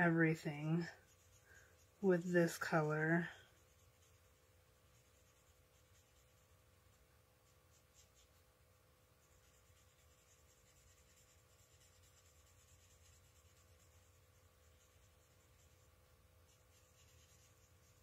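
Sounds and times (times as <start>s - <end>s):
marker tip scratching on cardstock: 0.0s - 6.6s, 7.4s - 8.4s, 9.2s - 18.0s.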